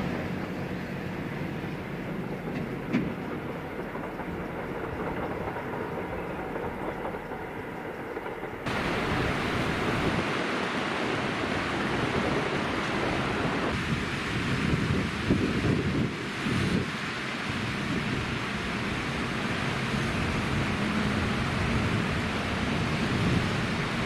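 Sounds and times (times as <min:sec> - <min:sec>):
diesel train rumbling over rails: 0:00.0 - 0:24.0.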